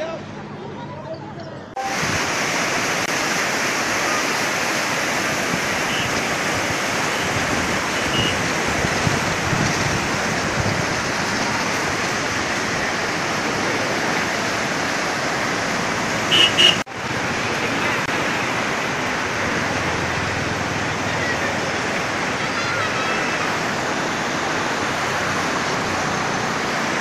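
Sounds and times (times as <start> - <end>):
floodwater rushing: 1.8 - 27.0.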